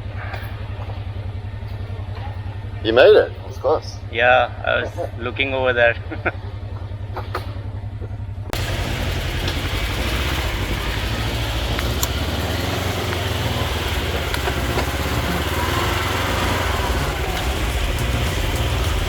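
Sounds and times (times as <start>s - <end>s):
utility vehicle engine running: 0.0s - 19.0s.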